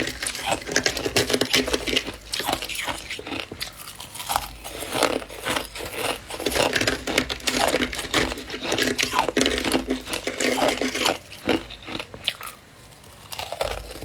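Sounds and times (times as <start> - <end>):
freezer frost crunching: 0.0 - 14.0.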